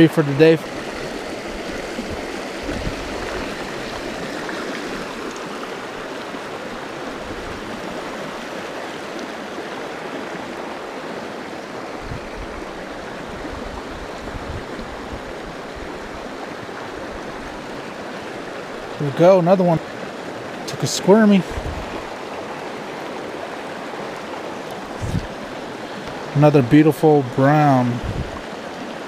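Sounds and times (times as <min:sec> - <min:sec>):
creek running over stones: 0:00.0 - 0:29.0.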